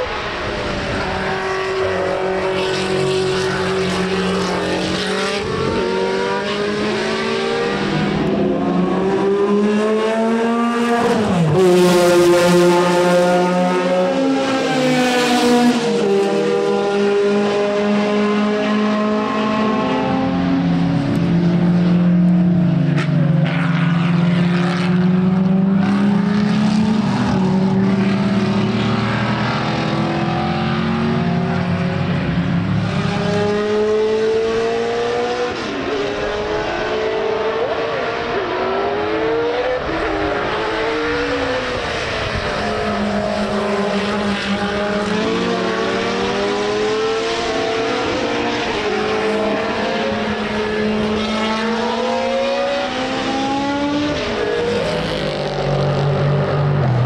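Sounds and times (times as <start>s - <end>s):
racing car engines at full throttle: 0.0s - 57.0s.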